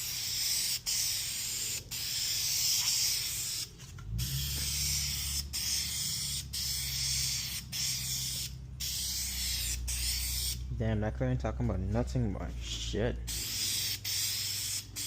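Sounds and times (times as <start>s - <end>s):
spray paint can hissing: 0.0s - 10.6s, 13.3s - 15.0s.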